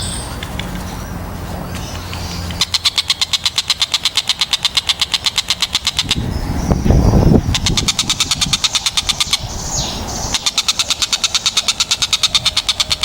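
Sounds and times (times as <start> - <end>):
kingfisher rattling call: 0.0 - 13.0.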